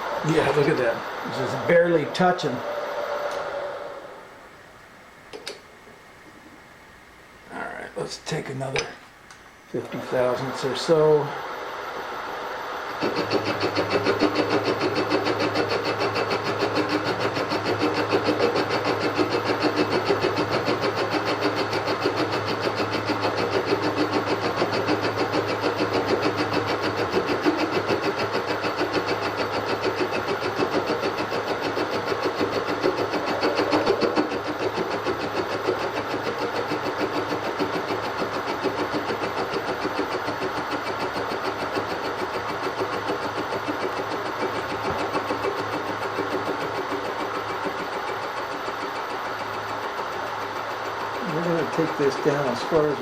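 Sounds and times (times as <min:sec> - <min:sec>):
milling machine cutting metal: 0:09.8 - 0:53.0.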